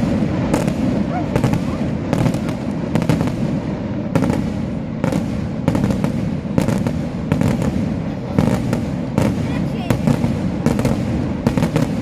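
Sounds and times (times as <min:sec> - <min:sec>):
fireworks bangs: 0:00.0 - 0:12.0
low rumble of fireworks: 0:00.0 - 0:12.0.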